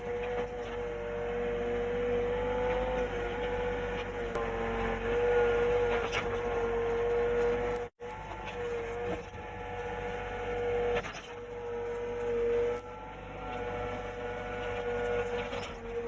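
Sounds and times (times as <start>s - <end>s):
machine motor whining: 0.0s - 16.0s.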